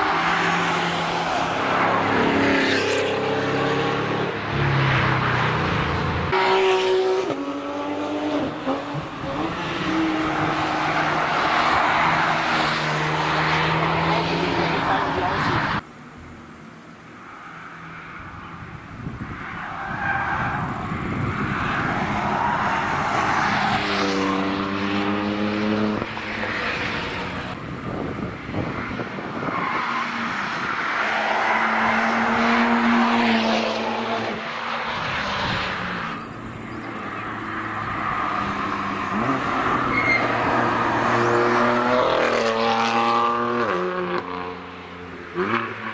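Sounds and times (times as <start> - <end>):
sports cars driving past: 0.0 - 15.8, 17.3 - 45.9.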